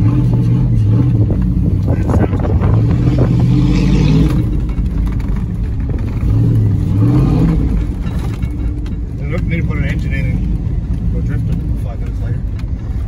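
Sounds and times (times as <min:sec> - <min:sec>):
engine revving inside car cabin: 0:00.0 - 0:13.0.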